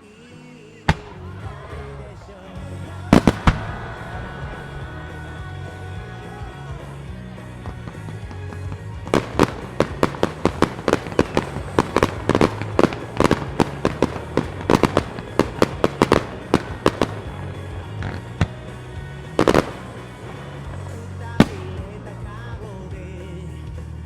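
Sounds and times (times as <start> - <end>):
music: 0.0 - 24.0
fireworks bursts: 0.8 - 23.9.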